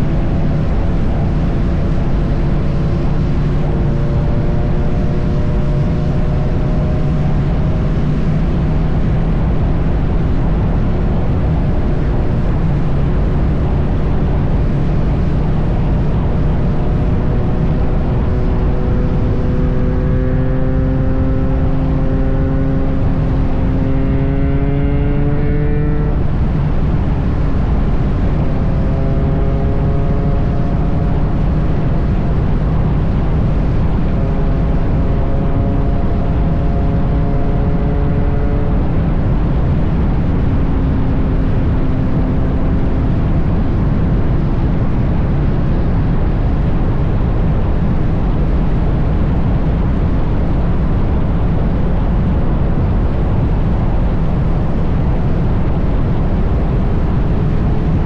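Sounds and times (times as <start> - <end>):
motorcycle engine hum: 0.0 - 58.0
wind noise on microphone: 0.0 - 58.0.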